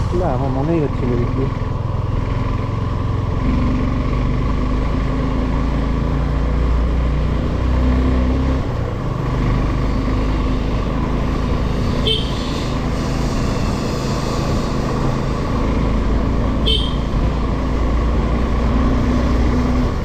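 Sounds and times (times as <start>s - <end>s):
road noise: 0.0s - 20.0s
vehicle engines on road: 0.0s - 20.0s.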